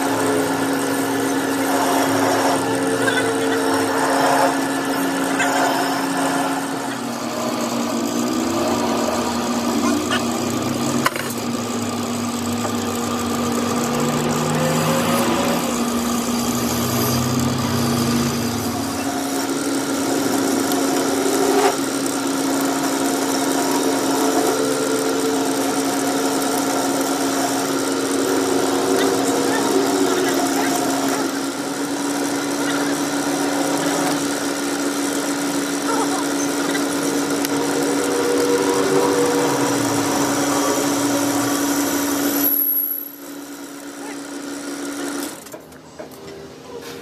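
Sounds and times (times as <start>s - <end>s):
workshop machine humming: 0.0s - 47.0s.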